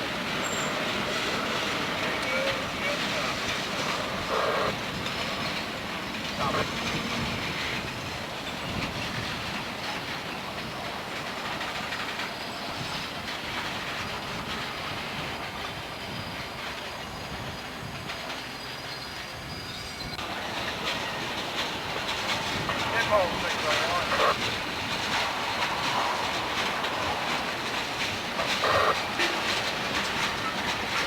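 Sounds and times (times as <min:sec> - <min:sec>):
high wheel squeal: 0:00.0 - 0:08.8, 0:14.0 - 0:24.5, 0:25.2 - 0:31.0
train wheels clicking over rail joints: 0:00.0 - 0:31.0.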